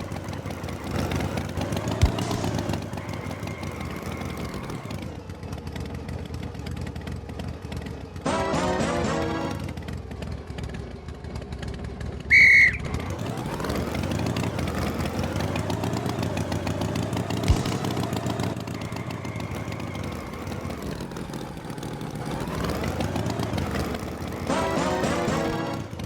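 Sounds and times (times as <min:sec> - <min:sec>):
cartoon tractor engine revving: 0:00.0 - 0:26.0.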